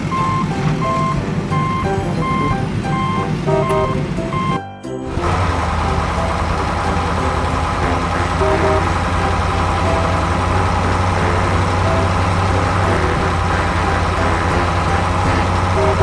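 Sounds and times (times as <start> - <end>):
short high notes: 0.0 - 16.0
truck engine droning: 0.0 - 16.0.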